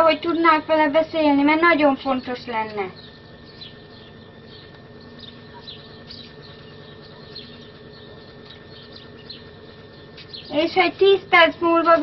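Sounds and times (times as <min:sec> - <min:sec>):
faint birds chirping: 0:00.0 - 0:12.0
steady background hum: 0:00.0 - 0:12.0.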